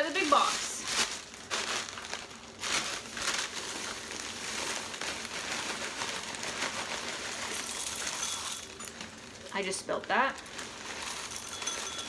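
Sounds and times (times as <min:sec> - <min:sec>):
dry cereal shifting: 0:00.0 - 0:12.0
plastic bag crinkling: 0:00.0 - 0:12.0.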